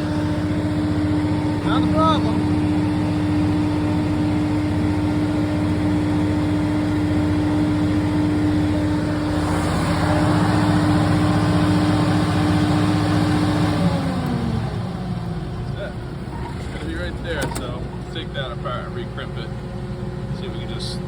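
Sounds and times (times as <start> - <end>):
generator engine hum: 0.0 - 21.0.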